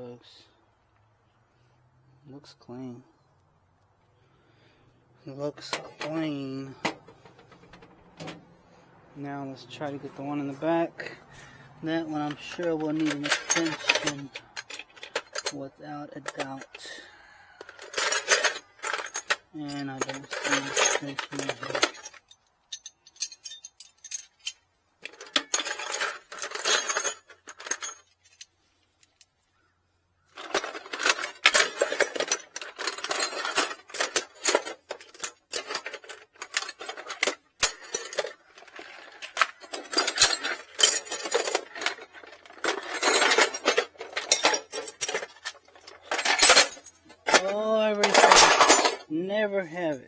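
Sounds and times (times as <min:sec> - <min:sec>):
metal tools clinking in a toolbox: 0:05.5 - 0:08.4, 0:09.6 - 0:29.3, 0:30.2 - 0:50.0.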